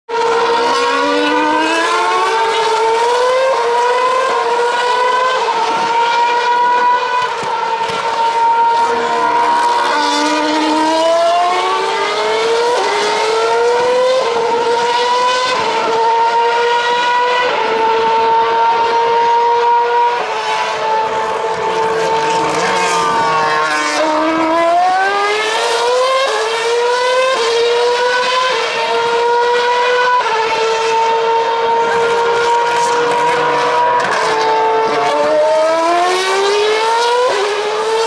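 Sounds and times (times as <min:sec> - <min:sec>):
racing car engines revving: 0:00.1 - 0:38.0.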